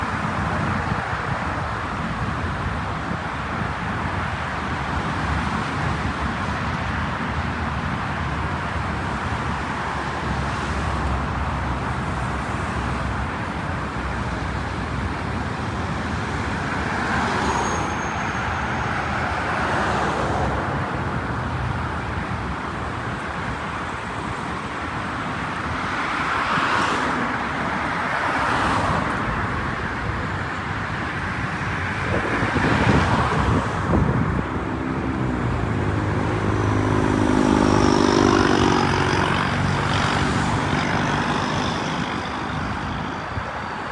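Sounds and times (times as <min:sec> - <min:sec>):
road traffic: 0:00.0 - 0:43.9
vehicle engine humming nearby: 0:00.0 - 0:43.9
vehicles passing: 0:00.0 - 0:43.9.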